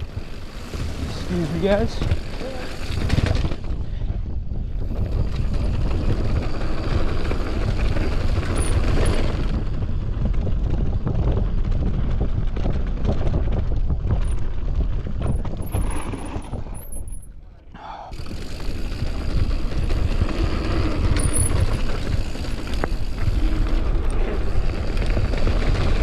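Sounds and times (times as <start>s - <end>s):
bike knocks and rattles: 0.0s - 17.3s, 18.2s - 26.0s
bike tyres rolling on dirt: 0.0s - 26.0s
wind rushing over microphone: 0.0s - 26.0s.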